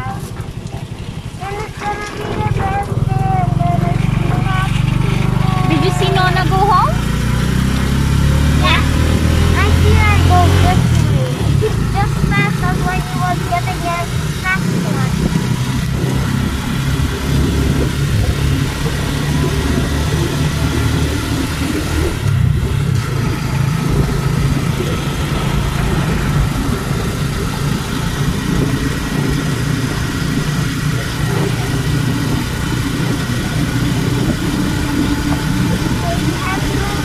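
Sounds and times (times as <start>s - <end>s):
vehicle engine and road rumble: 0.0s - 37.0s.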